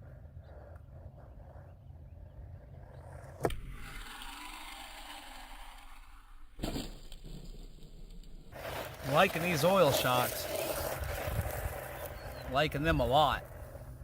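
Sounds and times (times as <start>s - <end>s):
rc truck running on loose ground: 0.0s - 14.0s.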